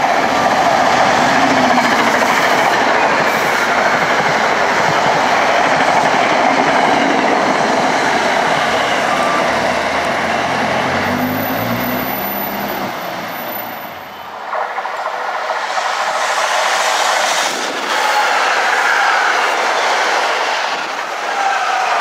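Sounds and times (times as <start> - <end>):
train wheels rushing on rail: 0.0 - 22.0.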